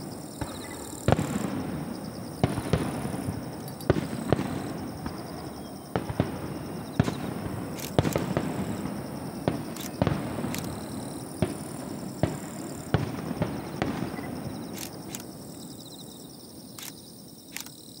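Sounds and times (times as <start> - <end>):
firework shells bursting: 0.0 - 15.4.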